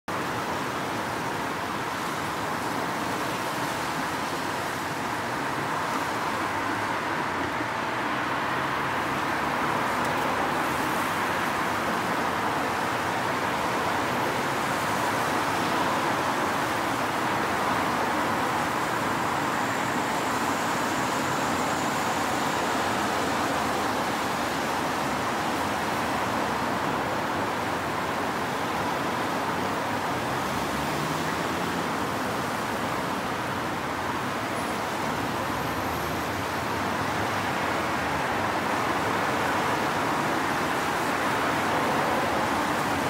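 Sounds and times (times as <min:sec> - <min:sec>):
road traffic: 0:00.1 - 0:43.0.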